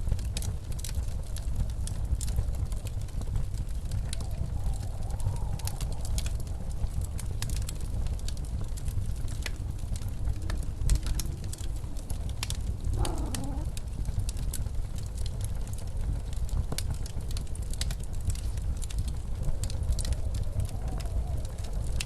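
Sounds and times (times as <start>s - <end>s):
blizzard wind rumbling and howling: 0.0s - 22.0s
wood fire crackling and popping: 0.0s - 22.0s.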